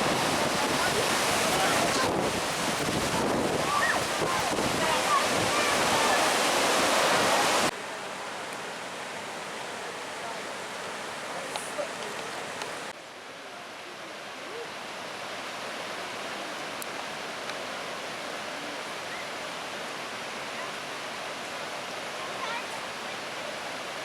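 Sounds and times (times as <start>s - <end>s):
rushing creek water: 0.0s - 24.0s.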